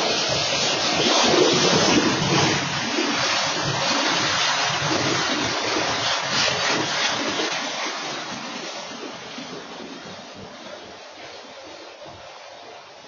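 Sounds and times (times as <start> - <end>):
diesel locomotives passing: 0.0 - 13.0
freight cars rolling over rails: 0.0 - 13.0.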